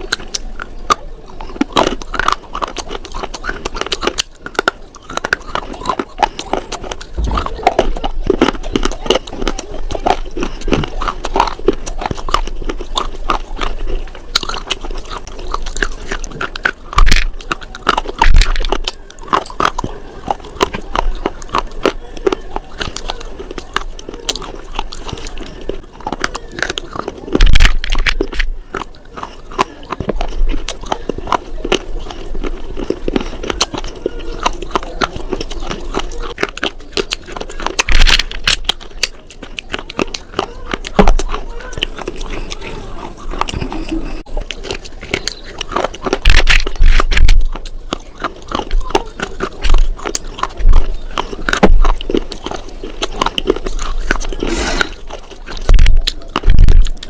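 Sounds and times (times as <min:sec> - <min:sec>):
crunching and chewing slate: 0:00.0 - 0:57.0.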